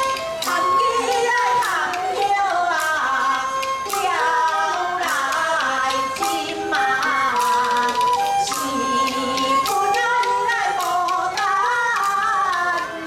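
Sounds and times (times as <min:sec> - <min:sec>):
sharp percussion stroke: 0:00.0 - 0:12.9
ornamented opera melody: 0:00.0 - 0:13.0.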